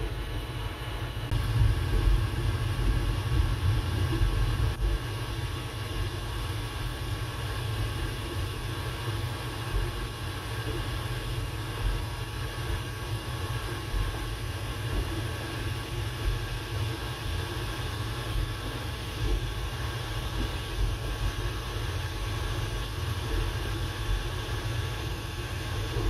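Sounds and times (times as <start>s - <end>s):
low hum: 0.0s - 26.0s
printer fans whirring: 0.0s - 26.0s.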